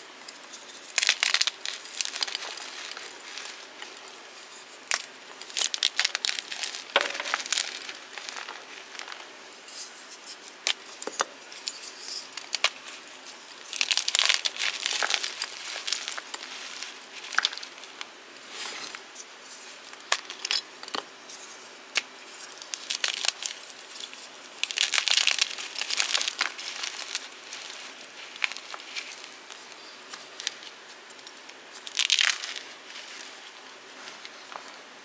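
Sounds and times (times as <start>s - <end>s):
chalk crunching and crumbling: 0.4s - 20.7s, 21.3s - 34.8s.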